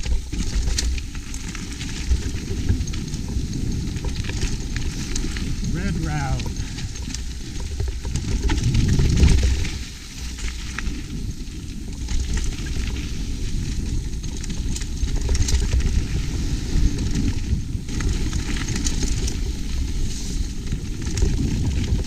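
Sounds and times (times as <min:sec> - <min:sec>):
bike parts clicking and rattling: 0:00.0 - 0:22.0
wind rumble on microphone: 0:00.0 - 0:22.0.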